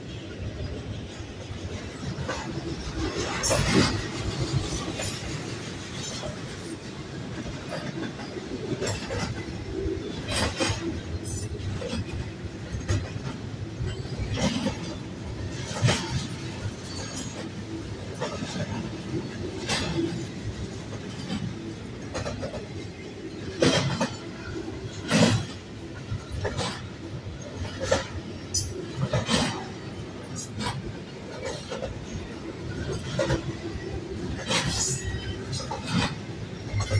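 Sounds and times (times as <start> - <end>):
train wheels rumbling on rail: 0.0 - 36.9
freight cars clanking: 0.4 - 36.9.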